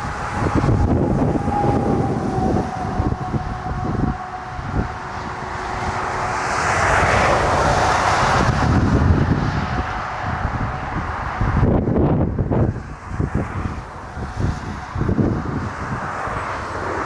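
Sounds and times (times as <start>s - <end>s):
jet airliner engine roar: 0.0s - 17.0s
wind buffeting microphone: 0.0s - 17.0s.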